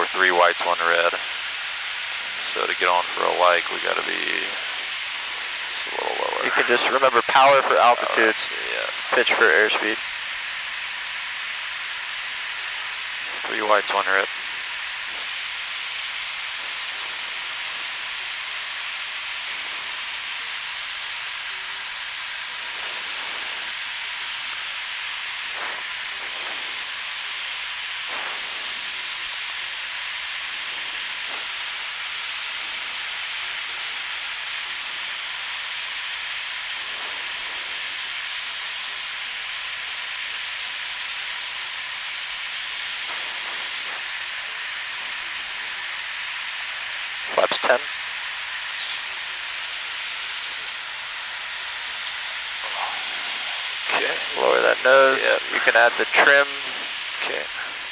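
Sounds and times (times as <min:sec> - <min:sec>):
aircraft cockpit hiss: 0:00.0 - 0:57.9.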